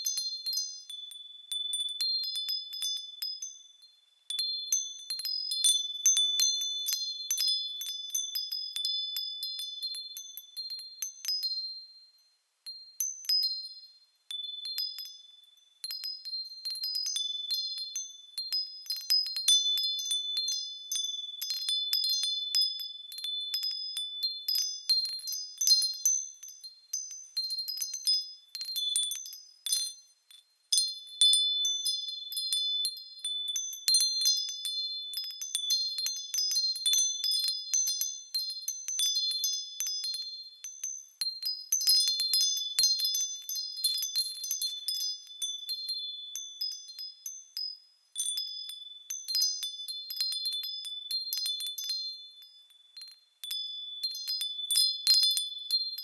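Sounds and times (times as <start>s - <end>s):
small bells tinkling: 0.0s - 56.0s.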